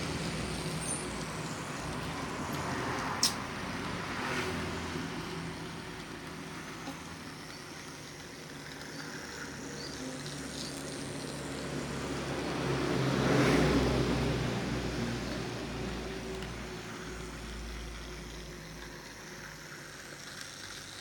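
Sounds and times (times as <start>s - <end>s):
low engine hum: 0.0s - 20.6s.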